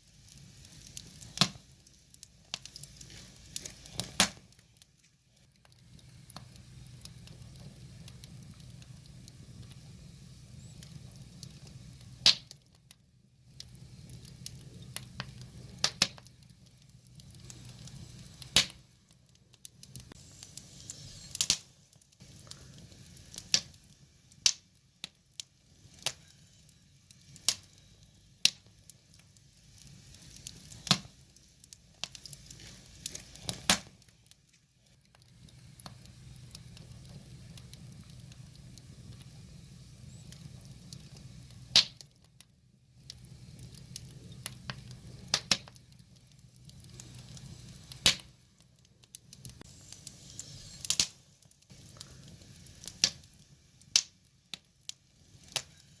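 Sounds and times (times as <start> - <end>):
firewood crackling and popping: 0.0 - 56.0
low rumble of flames: 0.0 - 56.0.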